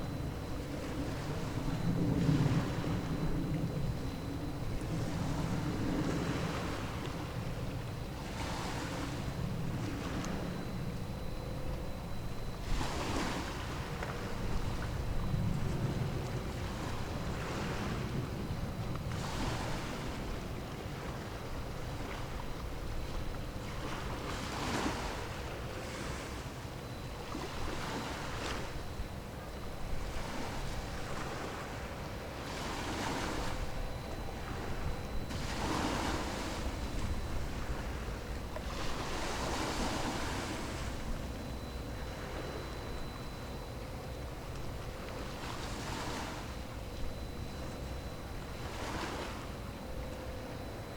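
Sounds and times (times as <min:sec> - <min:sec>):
faint steady hum: 0:00.0 - 0:50.9
wind rumble on microphone: 0:00.0 - 0:50.9.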